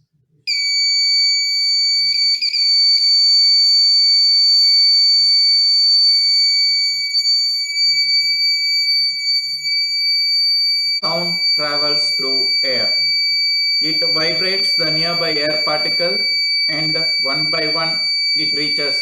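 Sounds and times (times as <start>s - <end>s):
electronic buzzer tone: 0.5s - 19.0s.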